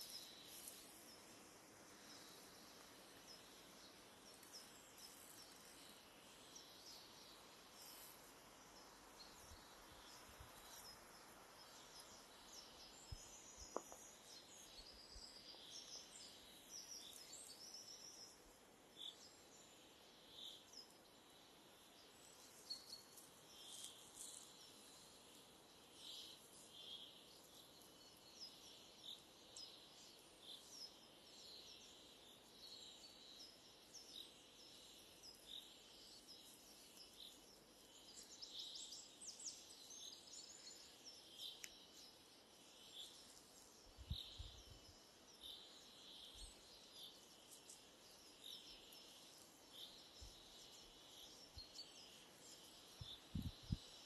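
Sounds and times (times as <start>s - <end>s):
soft hiss of forest air: 0.0s - 54.0s
songbirds chirping and trilling: 0.0s - 54.0s.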